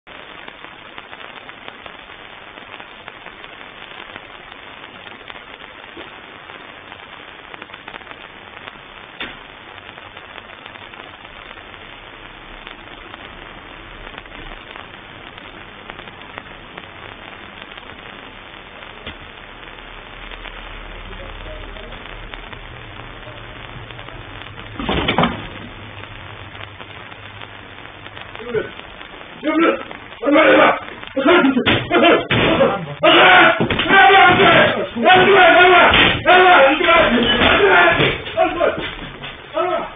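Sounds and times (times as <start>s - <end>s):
faint crackles: 0.0s - 39.9s
static hiss: 0.0s - 39.9s.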